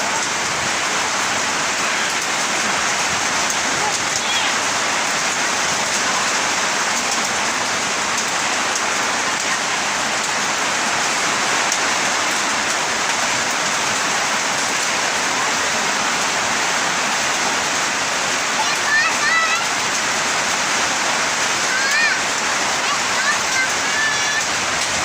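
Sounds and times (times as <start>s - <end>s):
heavy rain pouring: 0.0s - 25.0s
sharp ticks of raindrops: 0.0s - 25.0s.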